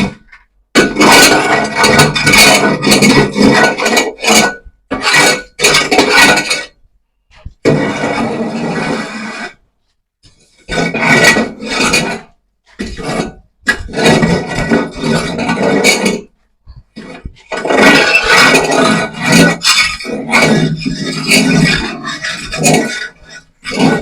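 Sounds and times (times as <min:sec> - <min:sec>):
sawdust scraping and rubbing: 0:00.8 - 0:06.8, 0:07.4 - 0:24.0.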